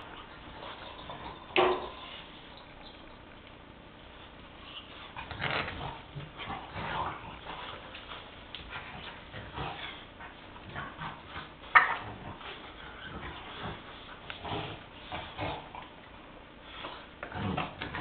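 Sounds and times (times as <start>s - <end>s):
dogs play-fighting: 0.0s - 3.2s, 4.0s - 18.0s.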